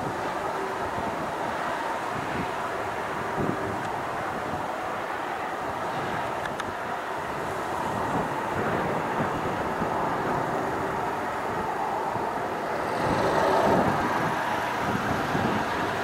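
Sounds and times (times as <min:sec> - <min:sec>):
distant jet engine: 0:00.0 - 0:16.0
wind buffeting microphone: 0:00.0 - 0:16.0.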